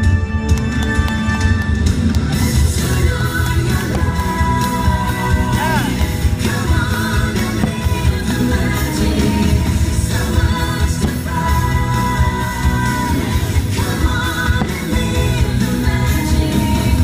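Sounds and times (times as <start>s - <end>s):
loud music with singing voice: 0.0s - 17.0s.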